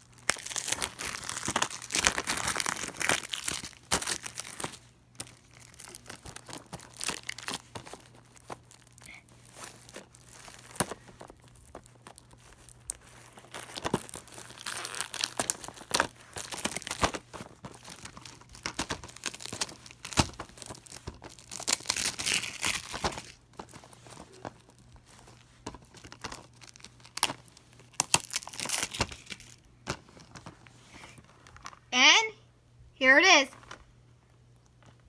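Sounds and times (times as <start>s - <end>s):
plastic wrap crinkling and tearing: 0.0s - 31.9s.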